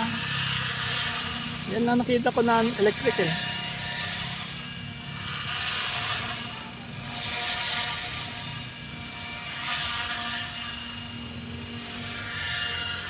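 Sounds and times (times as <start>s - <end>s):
motor whine: 0.0s - 13.0s.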